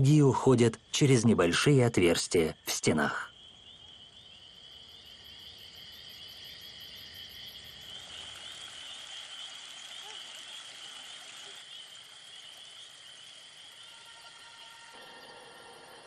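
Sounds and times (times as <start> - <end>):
crickets chirping: 0.0 - 16.0
frogs calling: 0.0 - 16.0.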